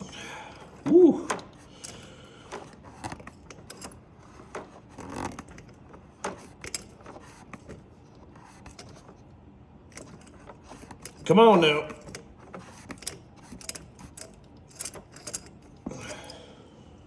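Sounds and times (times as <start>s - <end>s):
hand tools on metal parts: 0.0s - 9.2s, 9.9s - 16.5s.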